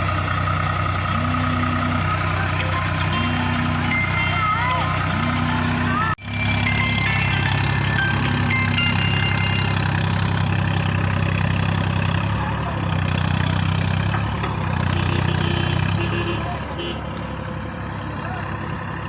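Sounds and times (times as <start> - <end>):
tractor engine running steadily: 0.0 - 19.0.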